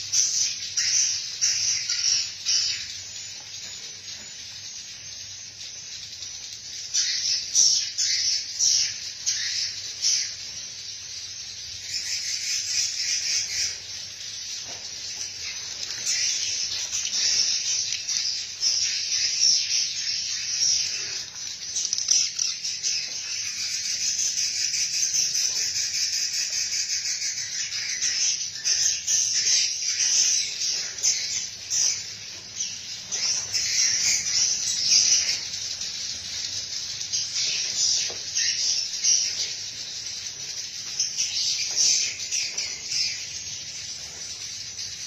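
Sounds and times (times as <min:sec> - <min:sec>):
birds and insects chirping: 0:00.0 - 0:45.0.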